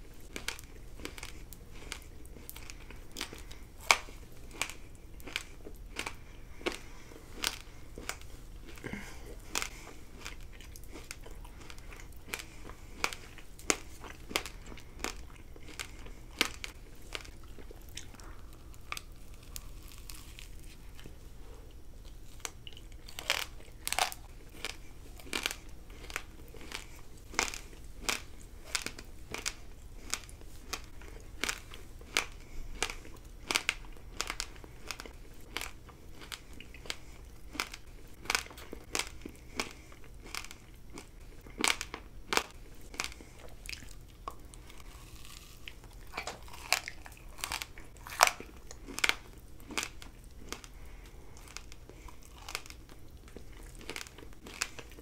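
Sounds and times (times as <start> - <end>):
crunchy chewing close up: 0.0 - 55.0.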